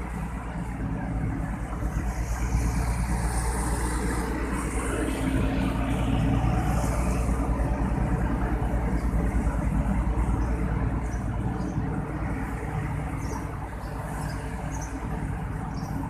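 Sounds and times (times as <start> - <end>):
traffic engine rumble: 0.0 - 16.0.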